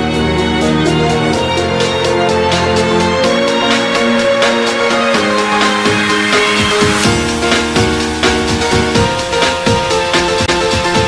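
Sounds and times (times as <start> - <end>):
sustained synth notes: 0.0 - 10.6
steady electronic beat: 0.0 - 11.0.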